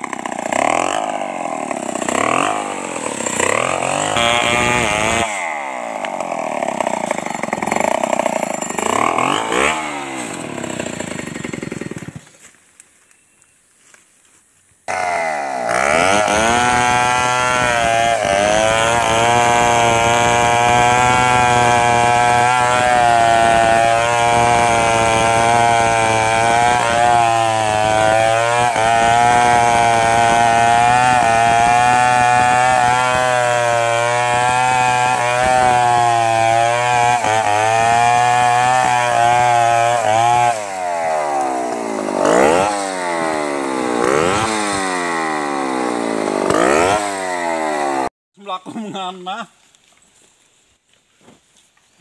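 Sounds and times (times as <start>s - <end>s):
chainsaw cutting wood: 0.0s - 12.6s, 14.8s - 48.1s.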